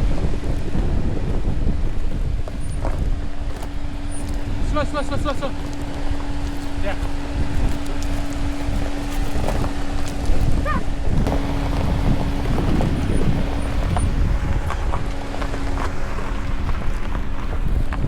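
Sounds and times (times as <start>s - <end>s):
car engine low hum: 0.0s - 18.0s
wind rumble on microphone: 0.0s - 18.0s.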